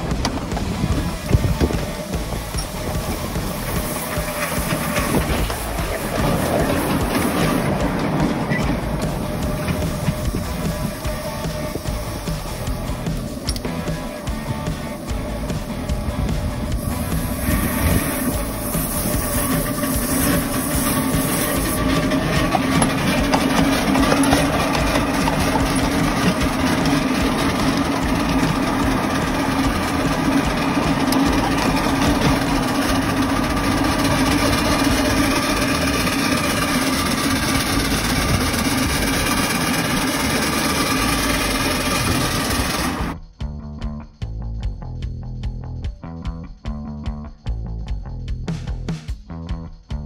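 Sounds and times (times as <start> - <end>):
steam locomotive engine working: 0.0 - 43.2
wheels running on rails: 0.0 - 43.2.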